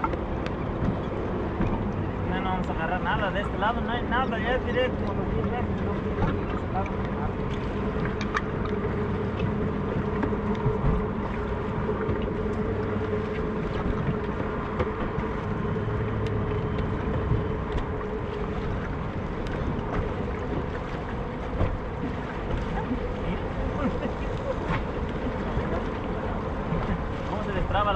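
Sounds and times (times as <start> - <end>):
low constant hum: 0.0 - 27.9
water noise: 0.0 - 27.9
wind: 0.0 - 27.9.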